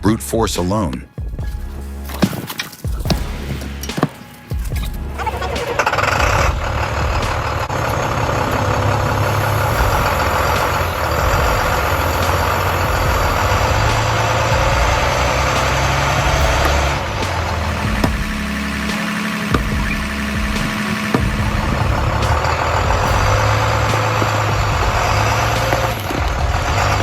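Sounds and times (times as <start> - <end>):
heavy vehicle engine under load: 5.3 - 27.0.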